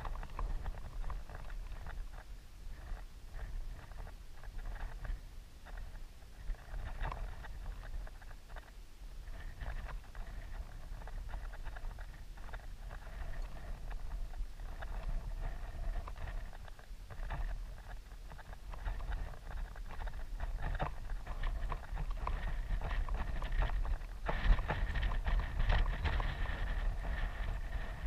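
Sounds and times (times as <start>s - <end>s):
rustling and scraping crackles: 0.0s - 28.0s
wind buffeting microphone: 0.0s - 28.0s.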